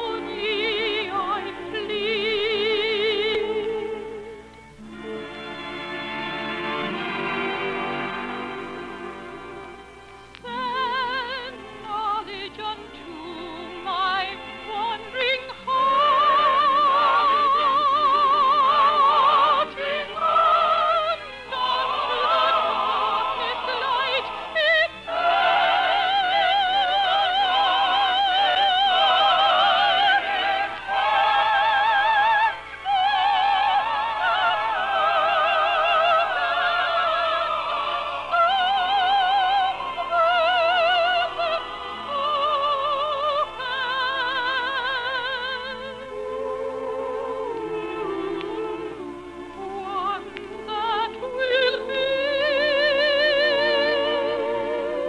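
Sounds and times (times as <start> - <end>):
operatic singing with vibrato: 0.0 - 55.0
orchestral accompaniment: 0.0 - 55.0.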